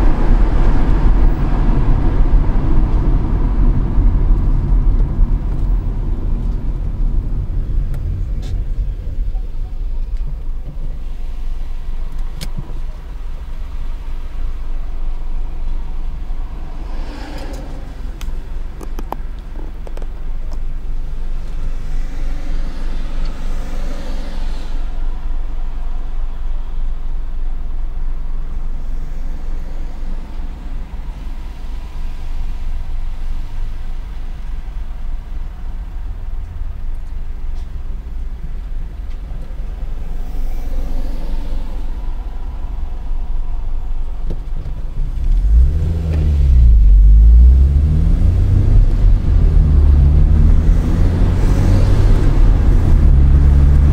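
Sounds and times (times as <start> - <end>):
car engine rumbling: 0.0 - 53.9
traffic passing: 0.0 - 53.9.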